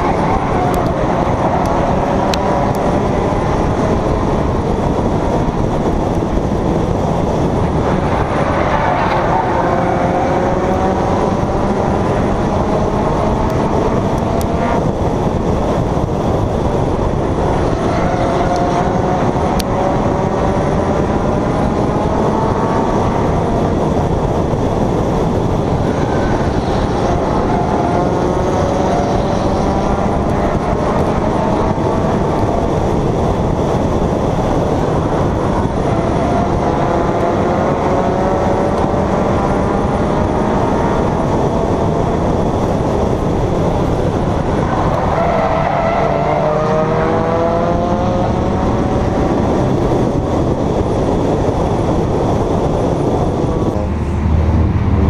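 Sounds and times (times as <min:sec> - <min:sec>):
race car engine accelerating: 0:00.0 - 0:55.0
road and wind noise: 0:00.0 - 0:55.0.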